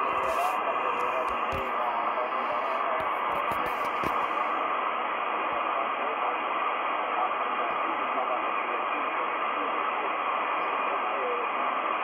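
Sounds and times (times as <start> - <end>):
radio static and hiss: 0.0 - 12.0.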